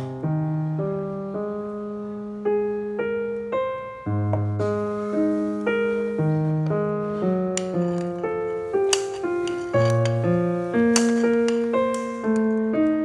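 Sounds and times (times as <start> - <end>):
slow solo piano melody: 0.0 - 13.0.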